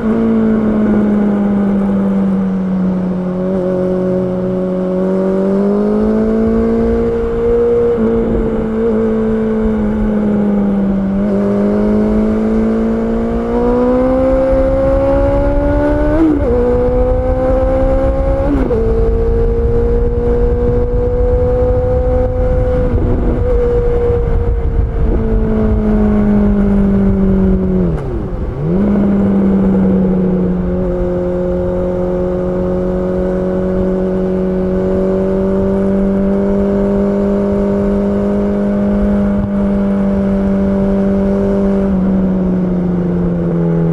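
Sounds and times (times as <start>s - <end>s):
motorcycle engine revving: 0.0s - 43.9s
wind and road noise: 0.0s - 43.9s.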